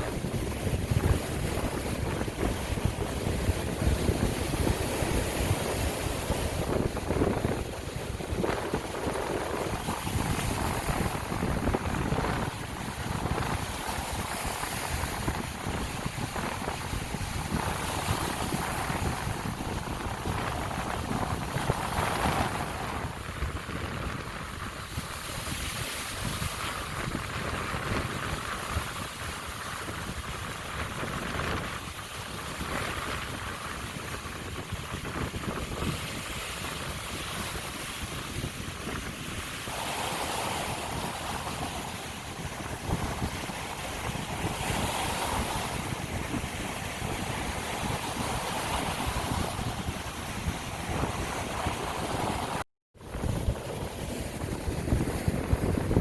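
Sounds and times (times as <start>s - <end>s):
waves breaking on beach: 0.0s - 56.0s
wind on microphone: 0.0s - 56.0s.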